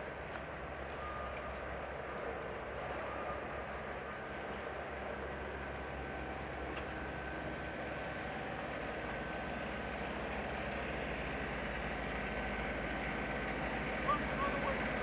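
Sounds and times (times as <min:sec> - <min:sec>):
constant high hum: 0:00.0 - 0:15.0
street traffic rumble: 0:00.0 - 0:15.0.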